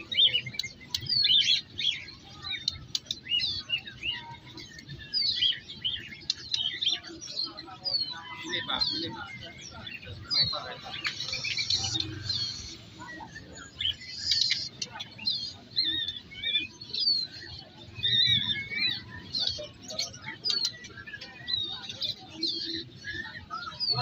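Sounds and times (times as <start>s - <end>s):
murmur of voices: 0.0s - 24.0s
songbirds chirping and whistling: 0.0s - 24.0s.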